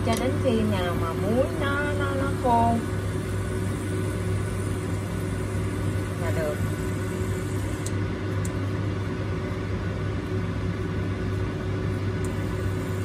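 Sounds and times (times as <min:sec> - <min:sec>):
cooktop electrical hum: 0:00.0 - 0:13.0.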